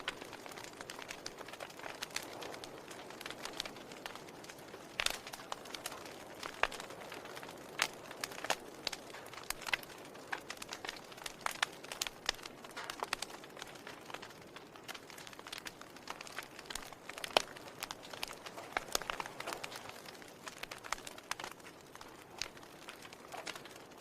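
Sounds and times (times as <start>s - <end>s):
soft fire hiss: 0.0s - 24.0s
wood fire crackling and popping: 0.0s - 24.0s.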